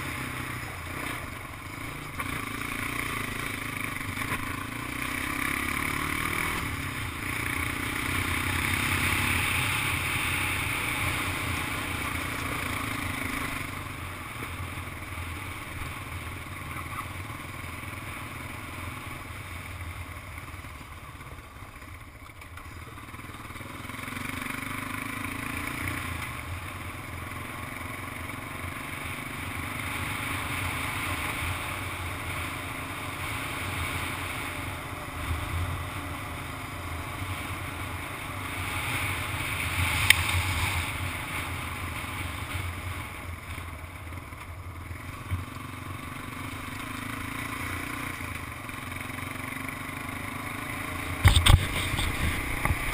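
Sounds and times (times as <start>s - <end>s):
atv engine running: 0.0s - 52.9s.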